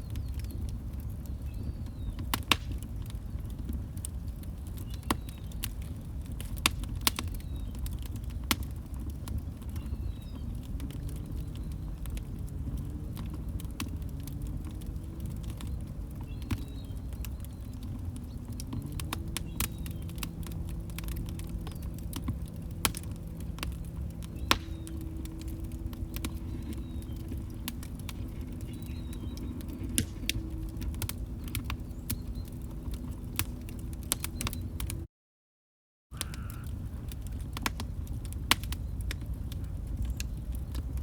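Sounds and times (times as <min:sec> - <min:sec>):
wood fire crackling: 0:00.0 - 0:35.1, 0:36.2 - 0:41.0.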